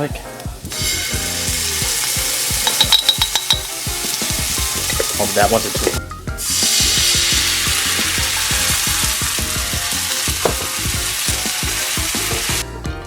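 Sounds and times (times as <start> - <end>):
chicken sizzling in a pan: 0.0 - 12.7
light background music: 0.0 - 13.0.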